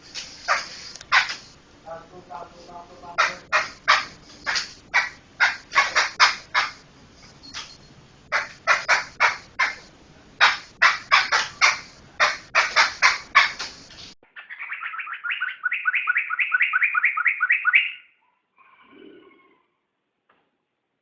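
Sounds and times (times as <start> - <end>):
laughingthrush singing: 0.0 - 1.6, 2.2 - 17.8.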